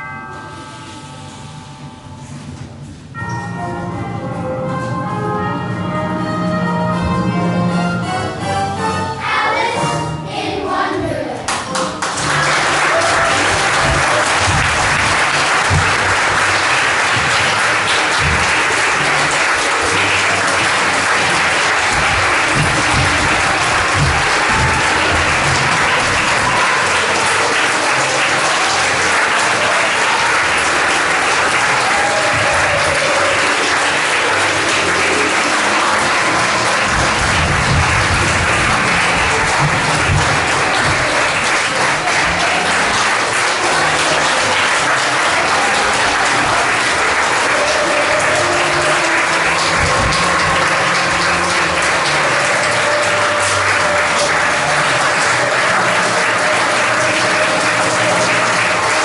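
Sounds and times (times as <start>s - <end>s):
audience applauding: 11.5s - 59.0s.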